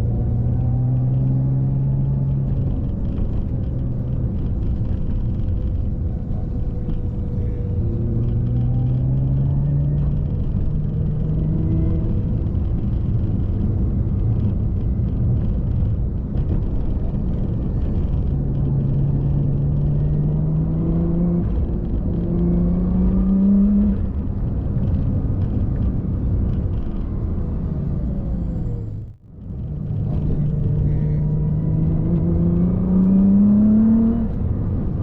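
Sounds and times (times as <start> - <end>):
road and wind rumble: 0.0 - 35.0.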